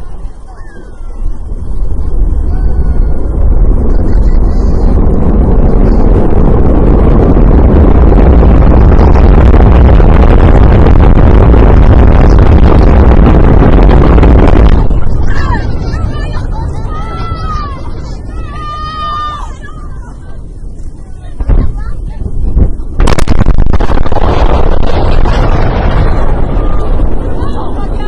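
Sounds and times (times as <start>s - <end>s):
rocket engines roaring: 0.0s - 28.0s.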